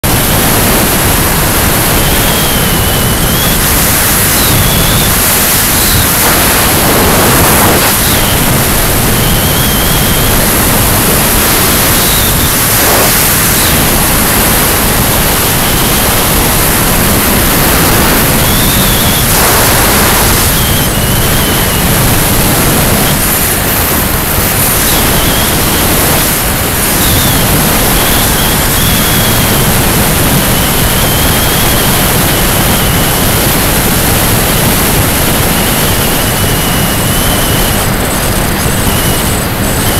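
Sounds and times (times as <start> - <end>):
wind rushing over microphone: 0.0 - 39.9
faint high whistle: 0.3 - 33.6, 34.4 - 39.9.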